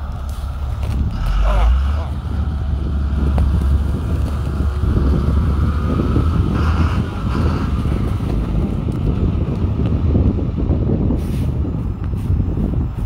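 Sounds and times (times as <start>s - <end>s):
road traffic: 0.0s - 13.0s
truck passing close by: 0.0s - 13.0s
wind rumbling on microphone: 0.0s - 13.0s.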